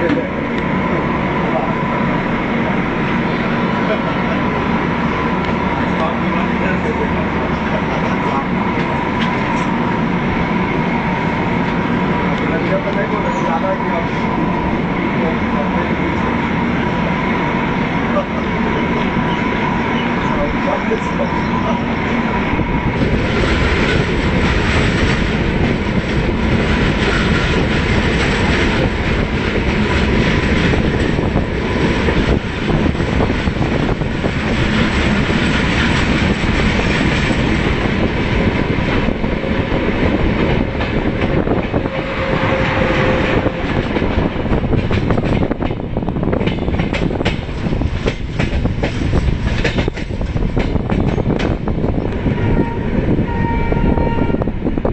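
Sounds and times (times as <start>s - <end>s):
train rumble and wind: 0.0s - 54.9s.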